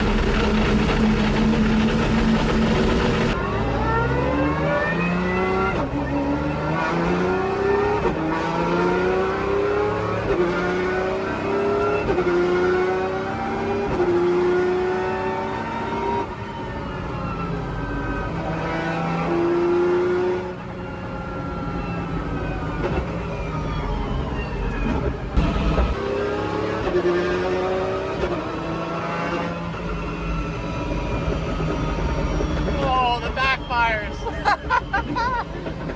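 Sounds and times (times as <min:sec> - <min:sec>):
car engine accelerating hard: 0:00.0 - 0:33.3.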